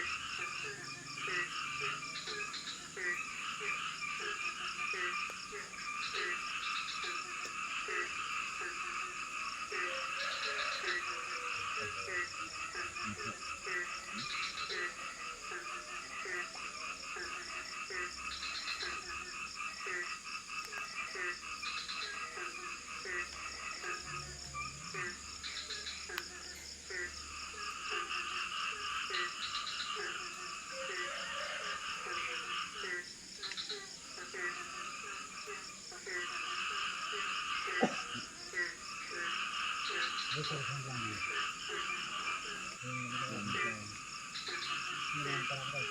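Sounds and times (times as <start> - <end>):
frog croaking: 0.0 - 45.9
frogs trilling: 0.0 - 45.9.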